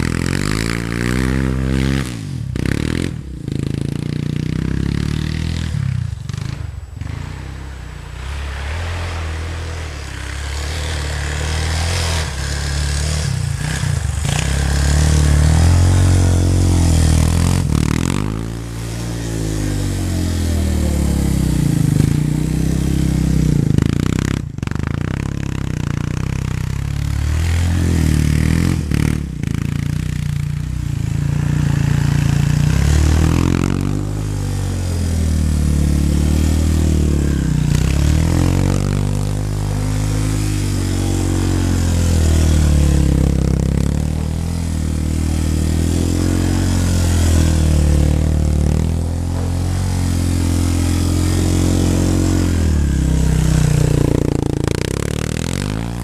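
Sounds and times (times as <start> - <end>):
quad engine revving: 0.0 - 56.0.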